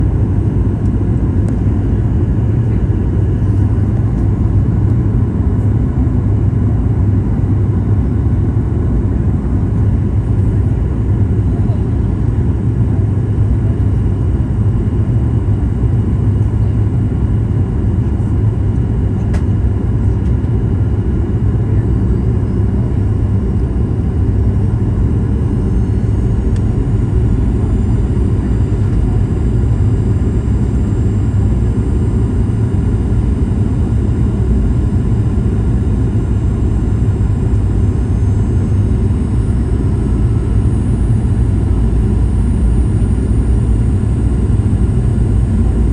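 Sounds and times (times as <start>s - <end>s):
jet cabin engine rumble: 0.0s - 45.9s.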